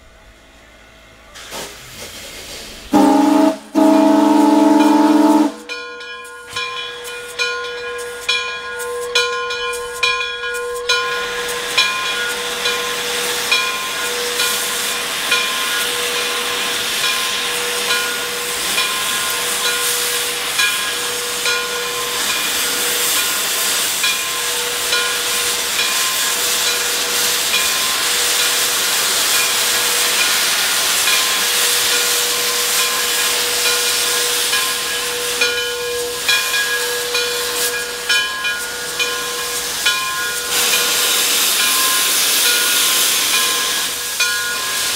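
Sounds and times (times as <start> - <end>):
steam locomotive hissing steam: 0.0 - 44.9
steam puffs: 1.4 - 5.8, 11.1 - 44.9.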